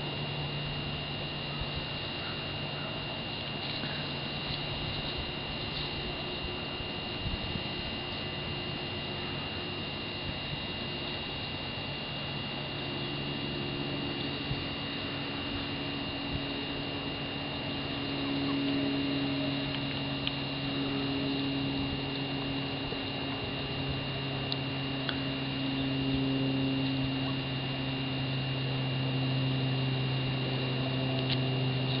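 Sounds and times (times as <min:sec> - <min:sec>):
faint high-pitched whine: 0:00.0 - 0:32.0
low hum: 0:00.0 - 0:32.0.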